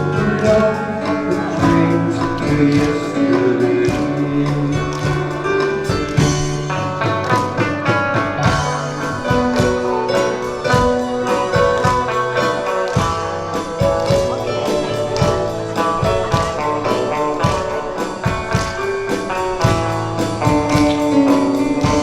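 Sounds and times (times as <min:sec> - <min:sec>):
bass guitar: 0:00.0 - 0:22.0
guitar: 0:00.0 - 0:22.0
live band playing instrumental: 0:00.0 - 0:22.0
steady drum beat: 0:00.0 - 0:22.0.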